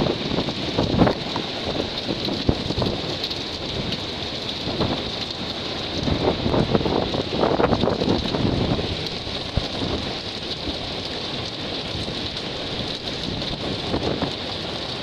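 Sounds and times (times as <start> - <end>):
heavy rain pouring: 0.0 - 15.0
strong wind: 0.0 - 15.0.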